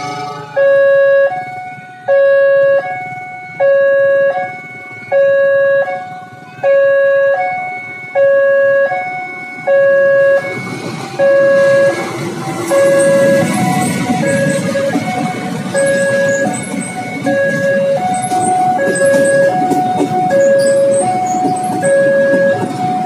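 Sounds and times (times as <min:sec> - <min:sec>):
level crossing two-tone alarm: 0:00.0 - 0:23.0
locomotive rumble: 0:00.0 - 0:23.0.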